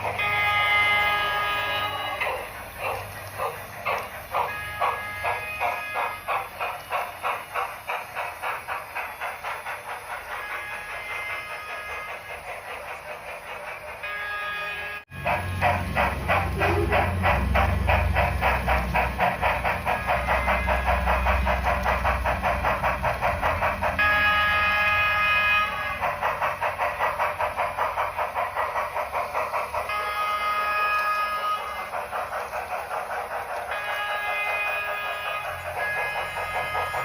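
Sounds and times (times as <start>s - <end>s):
steam locomotive chuffing: 0.0s - 37.0s.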